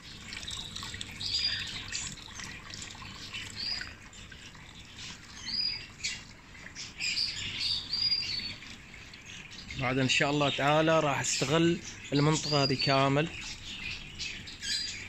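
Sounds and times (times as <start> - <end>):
cage birds chirping: 0.0 - 15.0
fountain water trickling: 0.0 - 15.0.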